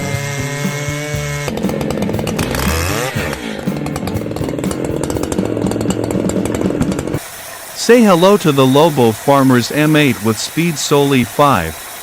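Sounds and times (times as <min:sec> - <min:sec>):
chainsaw engine high revs: 0:00.0 - 0:12.0.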